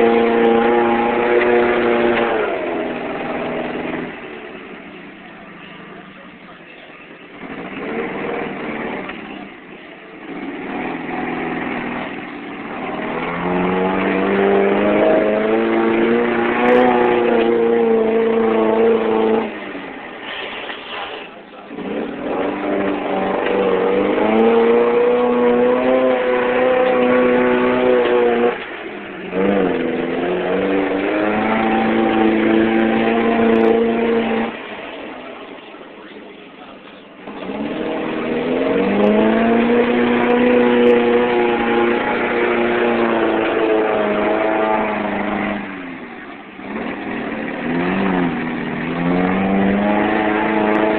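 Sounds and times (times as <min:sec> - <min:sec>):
truck engine revving hard: 0:00.0 - 0:50.9.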